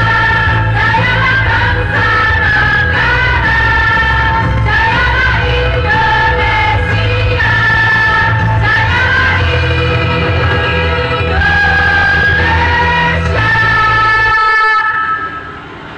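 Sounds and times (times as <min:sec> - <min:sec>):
bass-heavy accompaniment: 0:00.0 - 0:15.2
women's choir singing: 0:00.0 - 0:15.3.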